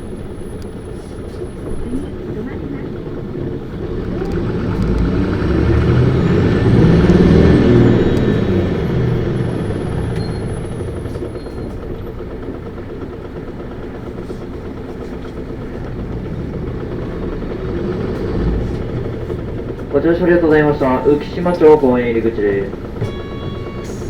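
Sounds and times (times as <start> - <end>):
bus diesel engine revving: 0.0 - 24.0.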